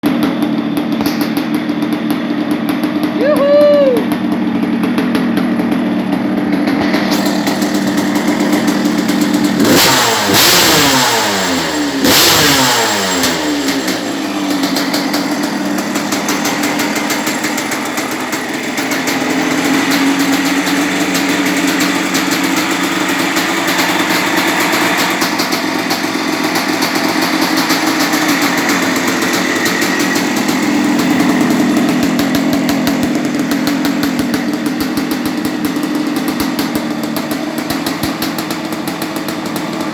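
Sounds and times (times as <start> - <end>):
two-stroke engine idling and revving: 0.0 - 39.9.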